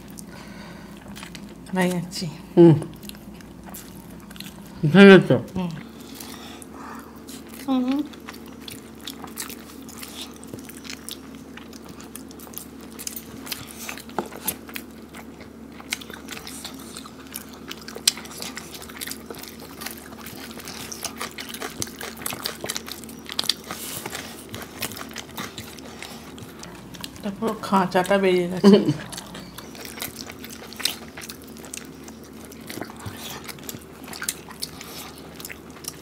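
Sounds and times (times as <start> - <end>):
chewing and biting: 0.0 - 2.0, 2.9 - 4.8, 5.8 - 36.0
steady low hum: 0.0 - 36.0.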